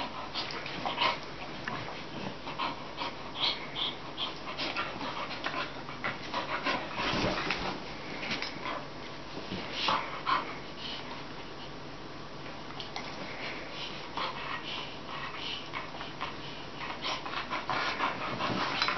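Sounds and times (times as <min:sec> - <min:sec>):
dogs play-biting and gnawing: 0:00.0 - 0:11.5, 0:12.7 - 0:18.9.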